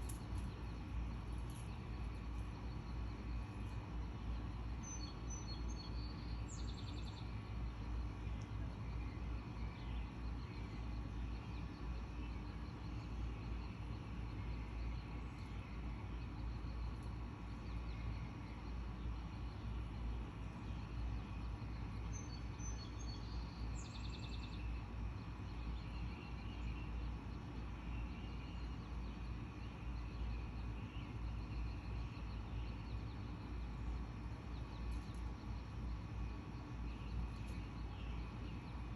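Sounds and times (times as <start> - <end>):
low background rumble: 0.0 - 38.9
small bird chirping trill: 0.0 - 38.9.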